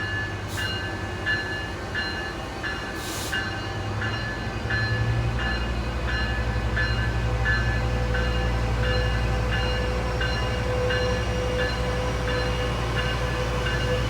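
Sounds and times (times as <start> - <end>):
railroad bell ringing: 0.0 - 14.0
train engine rumble: 0.0 - 14.0.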